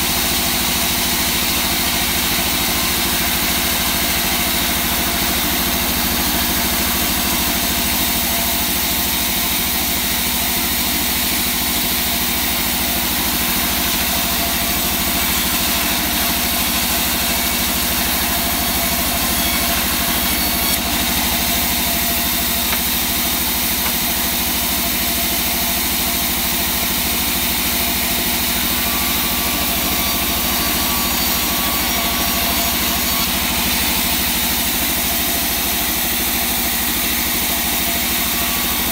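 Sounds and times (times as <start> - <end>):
bandsaw cutting wood: 0.0 - 38.9.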